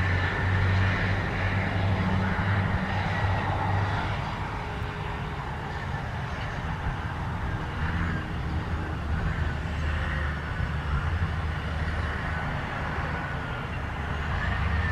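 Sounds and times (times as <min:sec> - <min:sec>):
heavy diesel engine running: 0:00.0 - 0:14.9.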